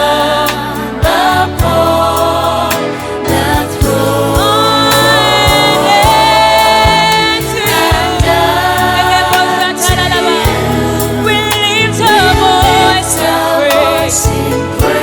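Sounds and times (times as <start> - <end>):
band with bass: 0.0 - 15.0
group singing gospel: 0.0 - 15.0.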